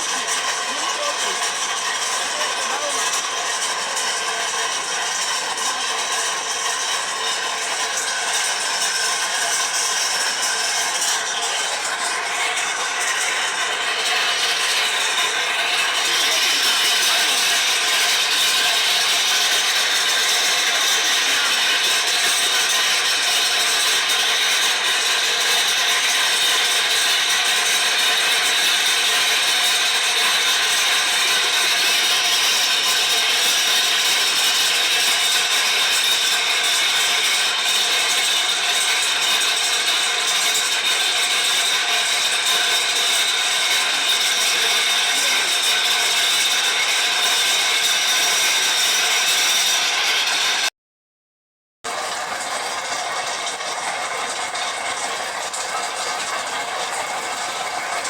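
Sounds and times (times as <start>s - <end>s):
machinery whine and rattle: 0.0s - 50.7s.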